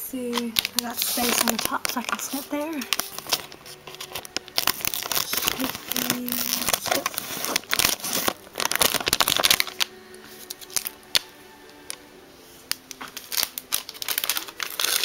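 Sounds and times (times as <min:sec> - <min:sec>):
packaging crinkling: 0:00.3 - 0:12.0, 0:12.6 - 0:15.0.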